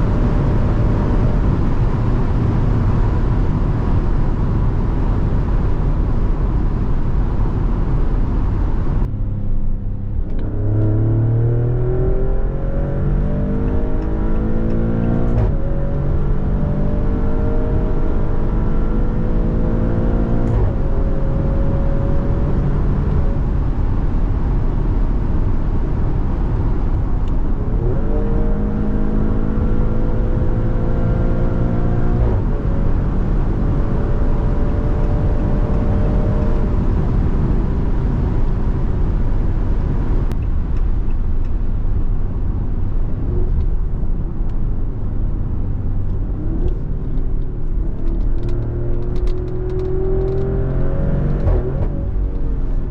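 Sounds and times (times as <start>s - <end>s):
car engine accelerating hard: 0.0s - 41.0s, 42.0s - 52.9s.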